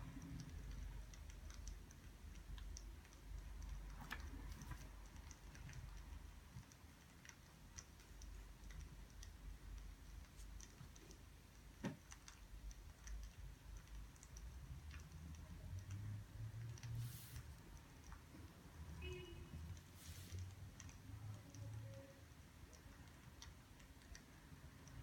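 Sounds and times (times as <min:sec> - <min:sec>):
small ticks and clicks: 0:00.0 - 0:25.0.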